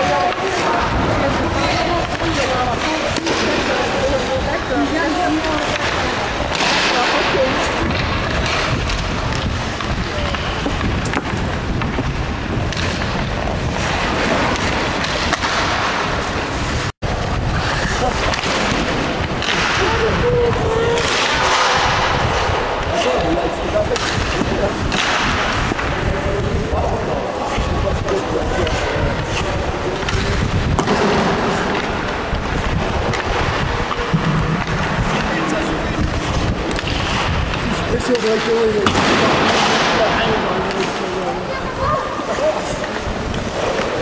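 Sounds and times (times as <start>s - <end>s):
ice rink rushing rumble: 0.0s - 44.0s.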